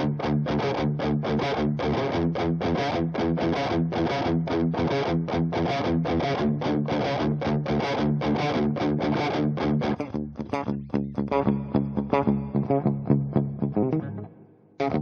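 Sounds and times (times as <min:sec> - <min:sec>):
distorted electric guitar strumming: 0:00.0 - 0:15.0.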